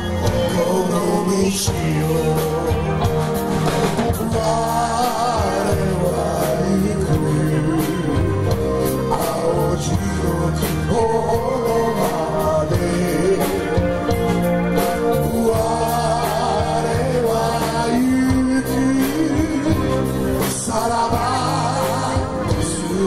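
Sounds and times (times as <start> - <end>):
man singing into a microphone: 0.0 - 14.2, 14.9 - 23.0
drum and cymbal hits: 0.0 - 23.0
live band playing: 0.0 - 23.0.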